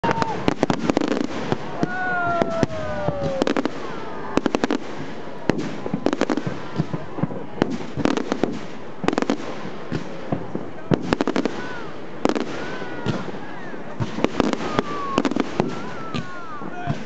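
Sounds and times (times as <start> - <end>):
firecrackers cracking: 0.0 - 17.0.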